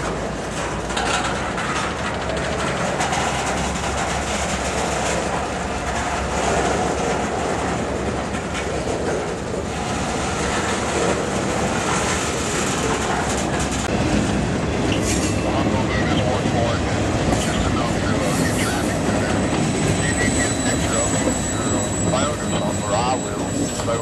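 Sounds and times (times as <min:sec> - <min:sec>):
train wheels rumbling on rails: 0:00.0 - 0:24.0
wheels clacking over rail joints: 0:00.0 - 0:24.0.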